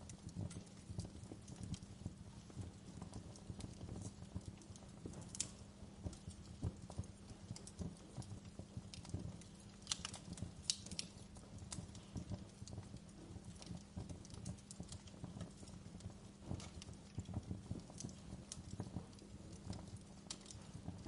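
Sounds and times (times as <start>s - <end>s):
low rush of flames: 0.0s - 21.0s
wood fire crackling and popping: 0.0s - 21.0s.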